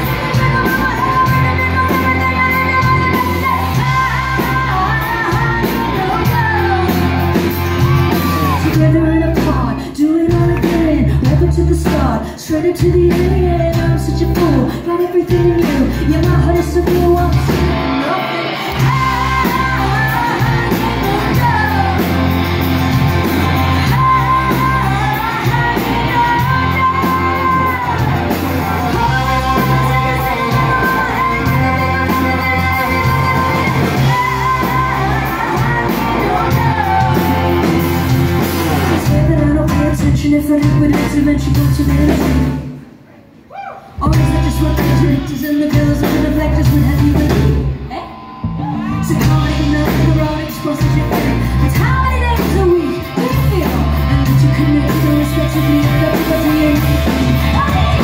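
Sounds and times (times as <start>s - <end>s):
woman singing: 0.0s - 42.7s, 44.0s - 58.0s
live rock band: 0.0s - 43.1s, 43.8s - 58.0s.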